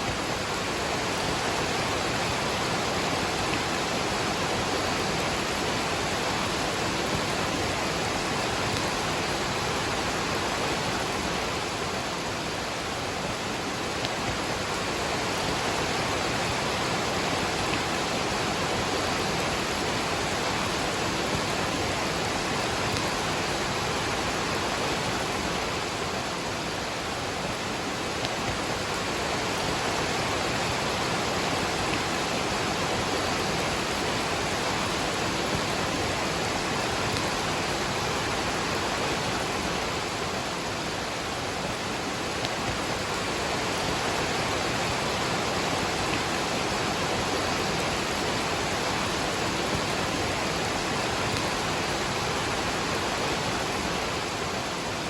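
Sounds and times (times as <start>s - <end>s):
waterfall and rain rushing: 0.0s - 55.0s.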